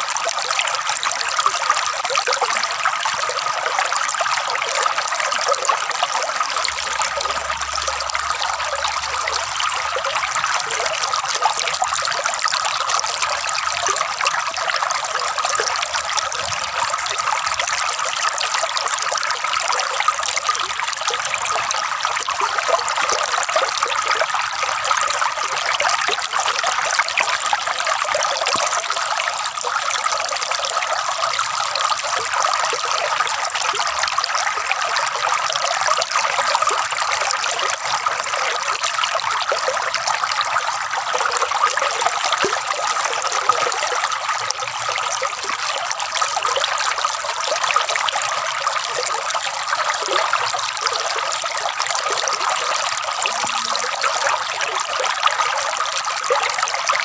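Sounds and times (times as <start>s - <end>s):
water trickling and gurgling: 0.0s - 57.0s.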